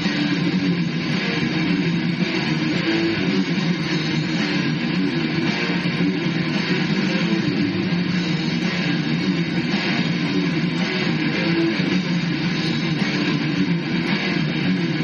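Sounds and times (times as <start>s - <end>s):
bass guitar: 0.0s - 15.0s
distorted electric guitar: 0.0s - 15.0s.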